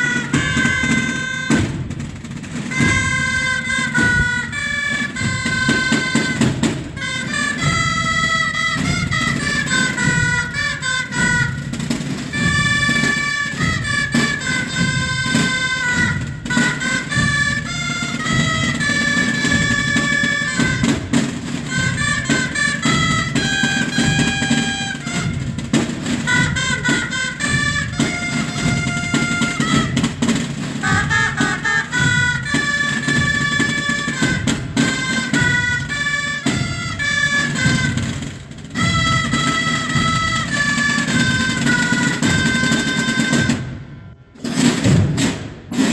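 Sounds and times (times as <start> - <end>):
brass melody: 0.0 - 45.1
steady drum beat: 0.0 - 45.9.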